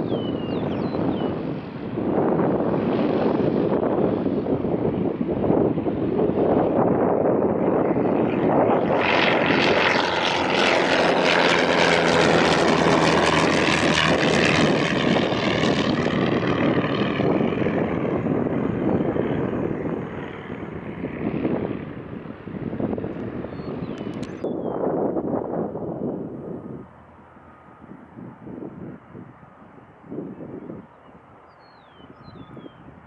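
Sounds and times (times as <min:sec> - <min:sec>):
propeller airplane engine passing: 0:00.0 - 0:33.0.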